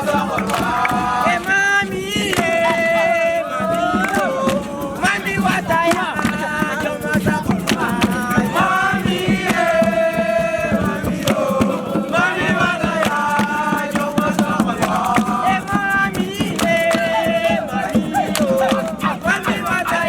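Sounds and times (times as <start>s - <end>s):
group of voices chanting: 0.0s - 20.0s
sharp percussive beats: 0.0s - 20.0s.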